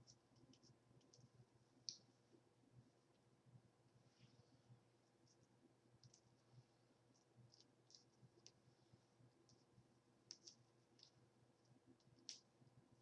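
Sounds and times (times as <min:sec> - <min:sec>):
faint ticks and rustles: 0:00.0 - 0:03.3, 0:04.0 - 0:13.0.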